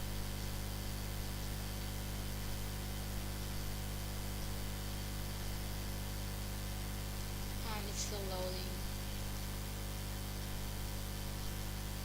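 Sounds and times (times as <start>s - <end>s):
low even hum: 0.0s - 12.0s.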